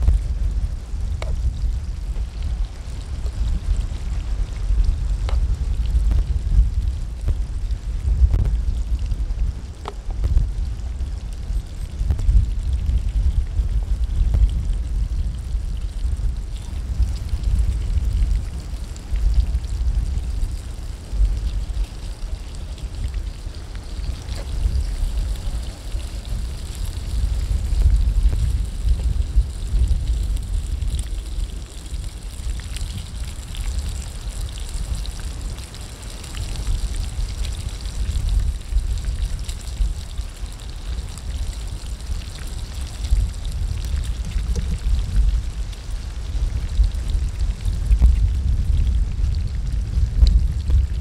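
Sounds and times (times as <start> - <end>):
pops and crackles: 0.0 - 51.0
steady low rumble: 0.0 - 51.0
wind buffeting microphone: 0.0 - 51.0.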